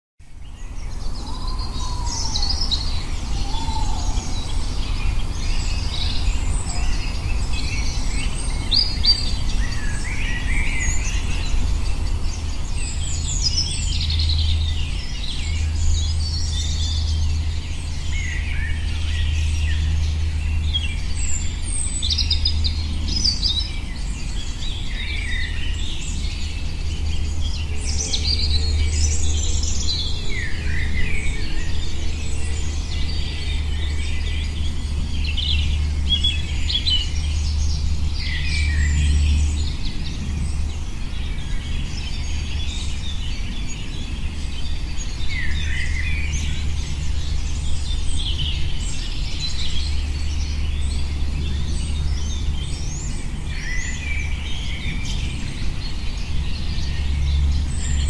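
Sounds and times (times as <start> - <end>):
songbirds singing: 0.2 - 58.0
steady low rumble: 0.8 - 58.0.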